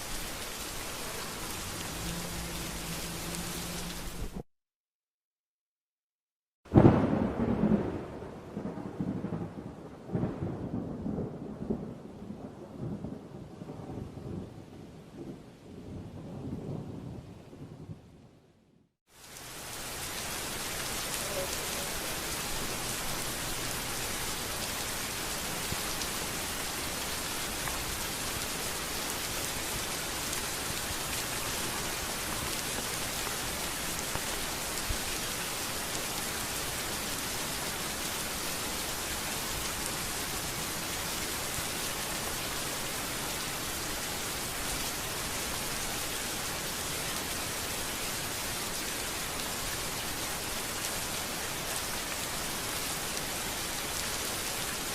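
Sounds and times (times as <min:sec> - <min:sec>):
steady rain falling: 0:00.0 - 0:04.4, 0:06.7 - 0:17.9, 0:19.1 - 0:54.9.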